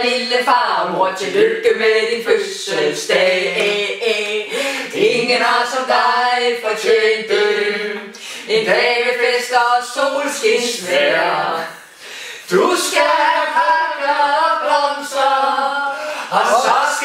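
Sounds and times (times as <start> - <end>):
group of people singing unaccompanied: 0.0 - 11.8, 12.5 - 17.0.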